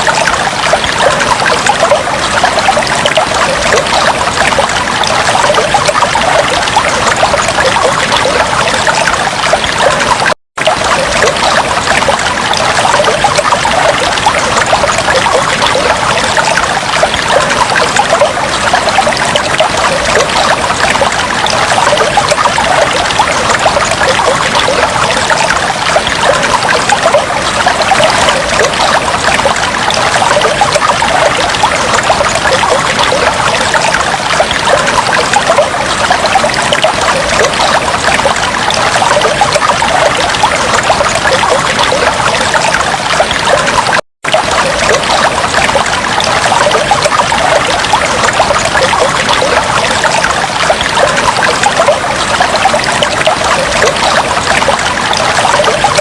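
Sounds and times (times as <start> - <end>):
aquarium water trickling: 0.0 - 56.0.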